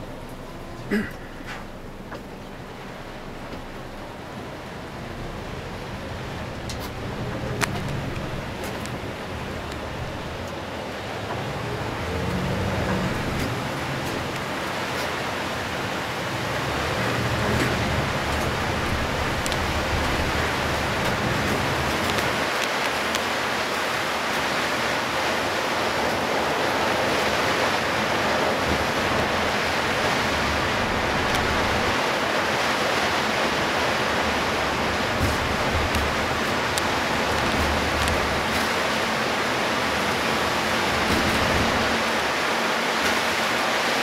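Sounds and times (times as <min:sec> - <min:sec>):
heavy rain and tyre spray: 0:00.0 - 0:44.0
low road and engine rumble: 0:00.0 - 0:44.0.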